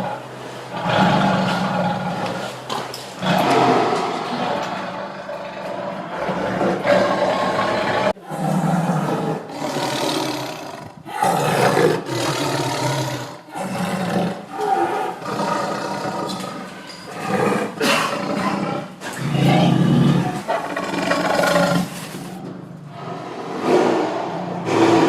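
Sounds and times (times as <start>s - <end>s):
tiger roaring: 0.0s - 25.0s.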